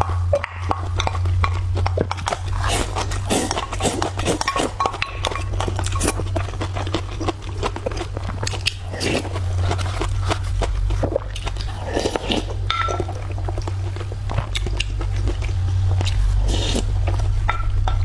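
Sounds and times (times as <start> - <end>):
chewing with wet mouth smacks: 0.0 - 17.7
steady low hum: 0.0 - 18.0.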